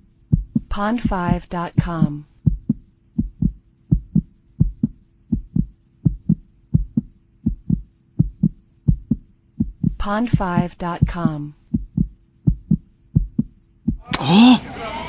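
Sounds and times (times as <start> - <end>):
heartbeat double thump: 0.3 - 14.0.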